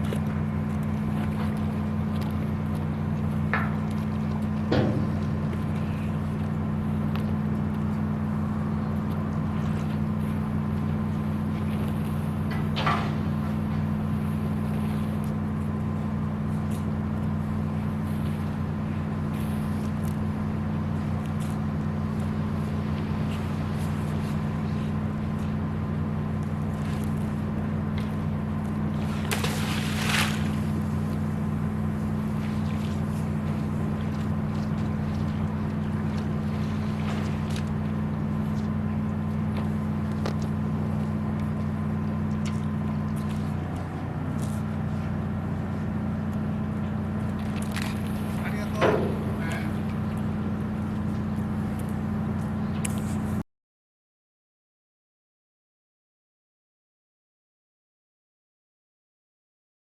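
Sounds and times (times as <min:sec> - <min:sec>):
ship engine low hum: 0:00.0 - 0:53.4.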